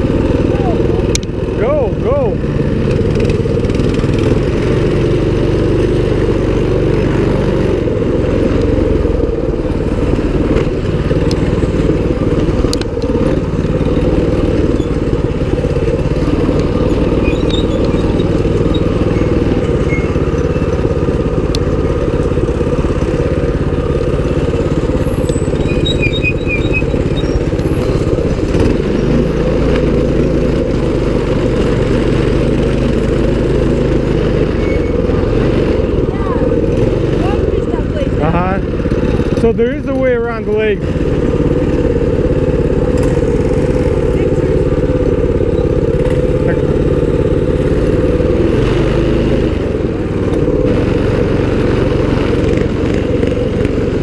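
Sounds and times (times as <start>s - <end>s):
small motorbike engine running: 0.0s - 54.0s.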